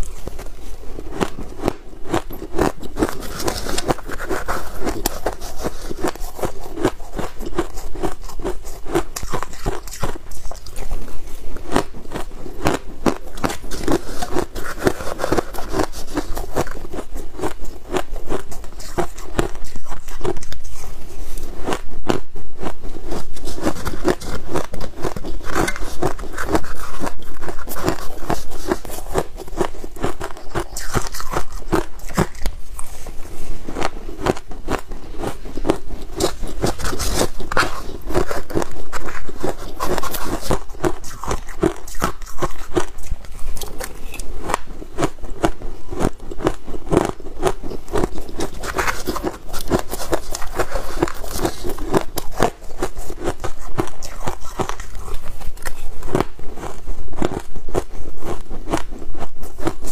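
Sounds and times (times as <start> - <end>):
crunching shaved ice: 0.0 - 22.2, 23.1 - 59.9.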